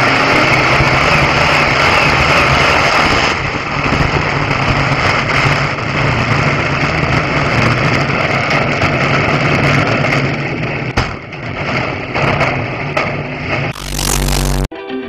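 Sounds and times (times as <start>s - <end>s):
road noise: 0.0s - 14.7s.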